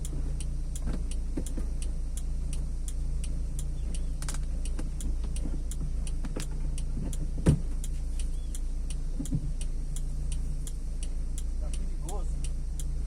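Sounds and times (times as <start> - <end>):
car engine and road hum: 0.0 - 13.0
loose liner ticking: 0.0 - 13.0.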